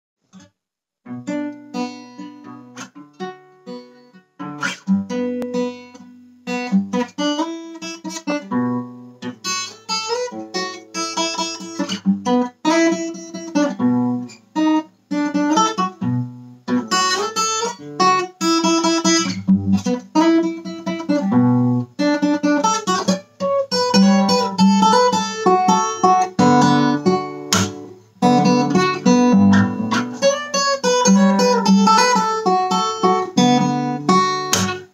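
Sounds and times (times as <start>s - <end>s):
acoustic guitar plucked: 1.1s - 34.9s.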